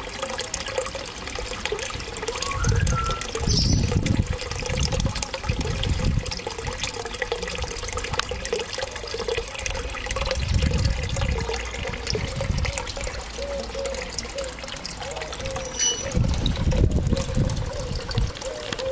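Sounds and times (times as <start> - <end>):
water trickling into pond: 0.0 - 18.9.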